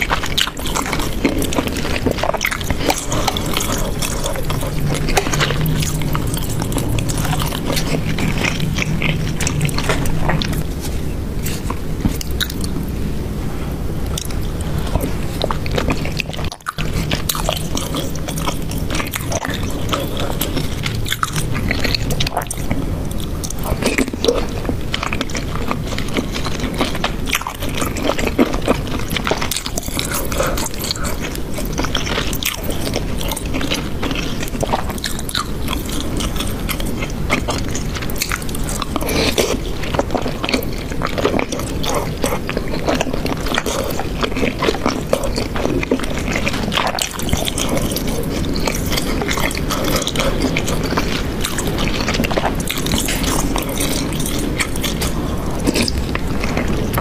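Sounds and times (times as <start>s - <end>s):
person chewing with wet smacks: 0.0s - 13.2s, 14.0s - 57.0s.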